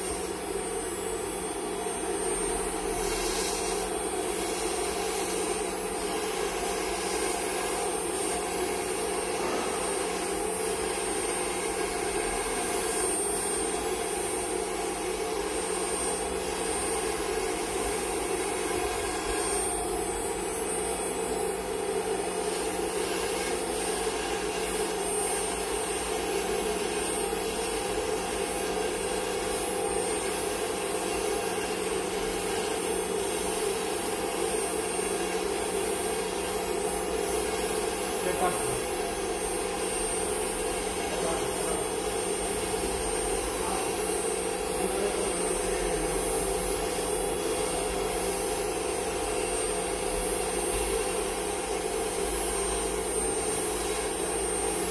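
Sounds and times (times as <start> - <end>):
milling spindle whirring: 0.0 - 54.9.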